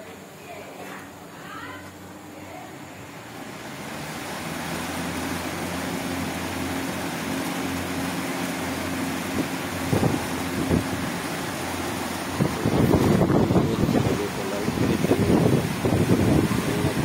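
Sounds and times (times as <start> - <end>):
exhaust fan running: 0.0 - 17.0.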